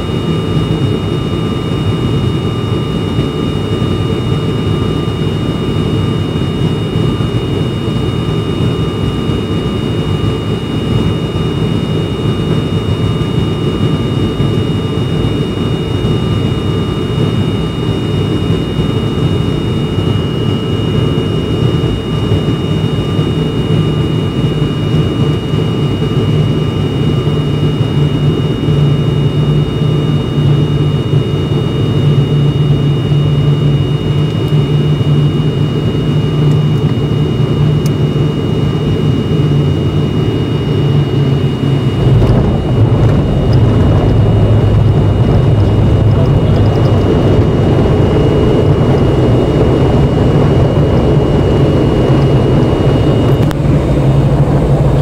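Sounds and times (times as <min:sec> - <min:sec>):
high-pitched whines: 0:00.0 - 0:55.0
turboprop engine drone: 0:00.0 - 0:55.0.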